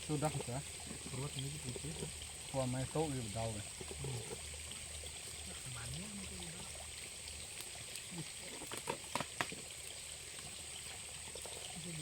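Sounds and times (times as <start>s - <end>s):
flowing water: 0.0s - 12.0s.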